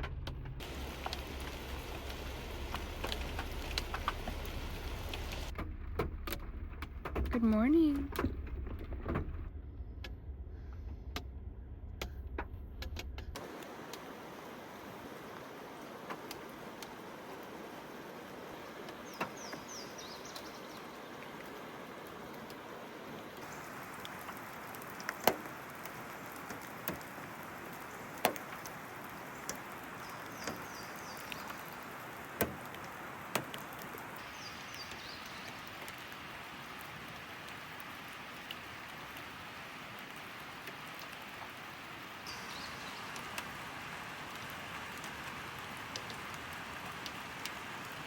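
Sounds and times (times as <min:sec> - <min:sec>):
steady rain: 0:00.0 - 0:09.6, 0:12.0 - 0:48.0.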